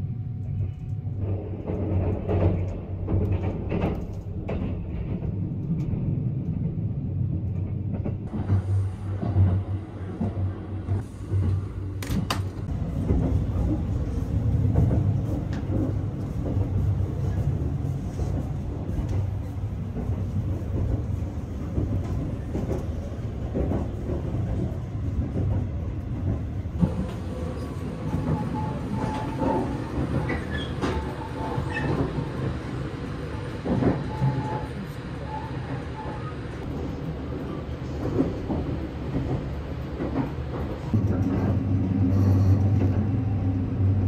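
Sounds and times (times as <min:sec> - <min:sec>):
train rumbling along rails: 0:00.0 - 0:44.0.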